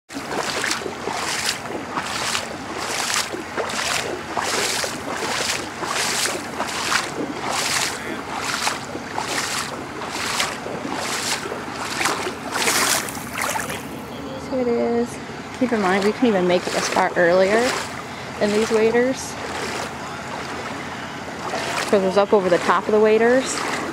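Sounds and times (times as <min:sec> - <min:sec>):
legs wading through water: 0:00.1 - 0:23.9.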